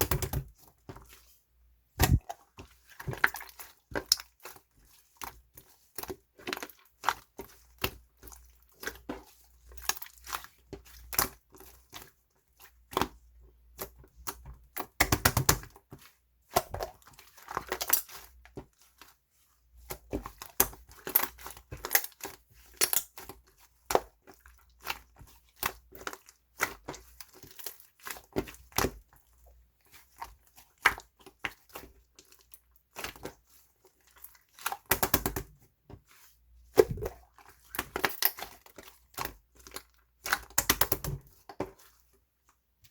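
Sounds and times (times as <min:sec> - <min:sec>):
slime squishing with sticky pops: 0:00.0 - 0:01.2, 0:02.0 - 0:19.2, 0:19.8 - 0:42.9.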